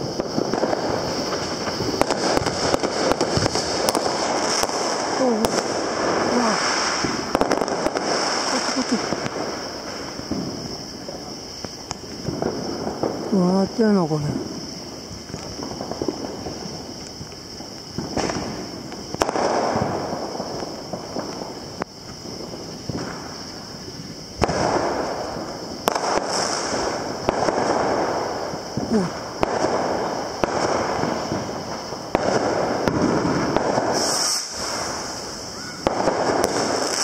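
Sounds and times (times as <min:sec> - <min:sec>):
fireworks bangs with crackling: 0:00.0 - 0:37.0.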